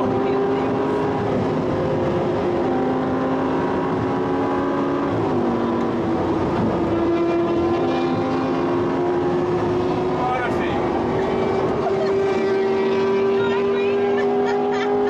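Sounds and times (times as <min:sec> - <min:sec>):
car engine running hard: 0:00.0 - 0:15.0
road and wind noise: 0:00.0 - 0:15.0.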